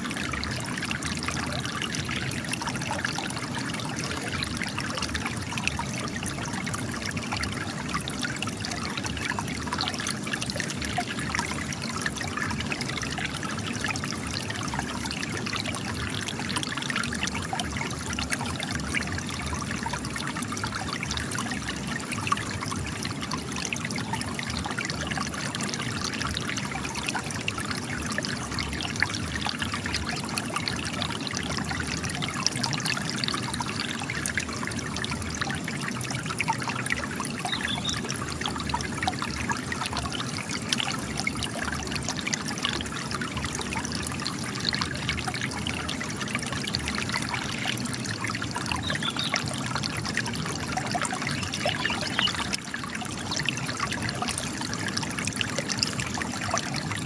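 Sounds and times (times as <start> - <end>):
spring water trickling and splashing: 0.0 - 57.0.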